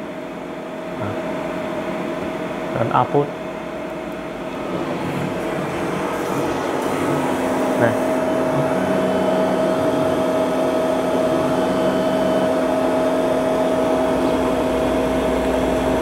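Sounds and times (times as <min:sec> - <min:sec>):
laser cutter hum: 0:00.0 - 0:16.0
low machine tone: 0:00.0 - 0:16.0.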